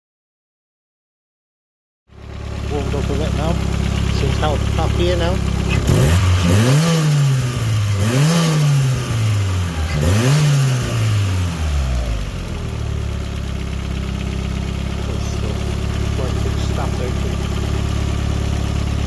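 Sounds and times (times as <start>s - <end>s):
car engine revving and idling: 2.1s - 19.0s.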